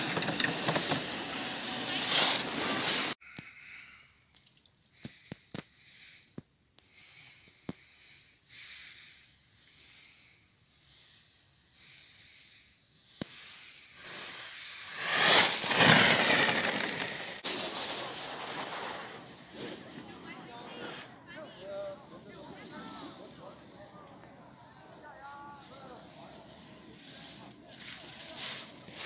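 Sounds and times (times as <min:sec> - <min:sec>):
skis scraping on packed snow: 0:00.0 - 0:03.2, 0:07.9 - 0:24.0, 0:24.9 - 0:29.0.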